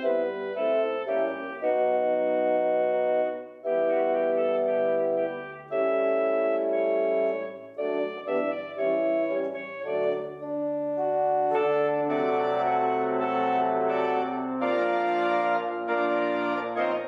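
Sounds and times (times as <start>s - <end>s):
organ sustained chords: 0.0s - 17.0s.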